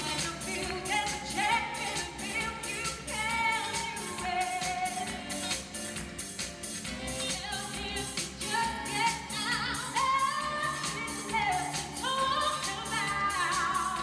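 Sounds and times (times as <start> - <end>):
choir singing pop song: 0.0 - 14.0.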